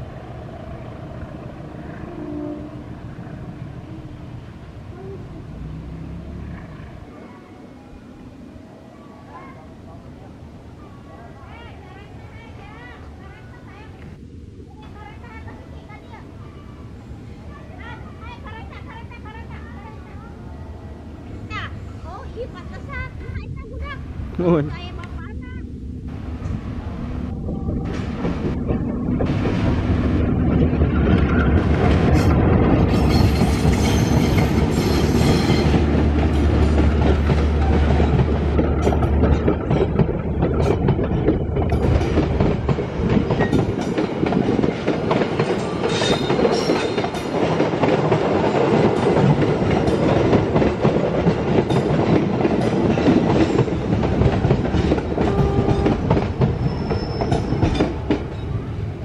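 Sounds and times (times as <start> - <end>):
coach wheels rumbling and clattering: 0.0 - 7.2, 18.2 - 59.0
diesel locomotive engine drone: 0.0 - 59.0.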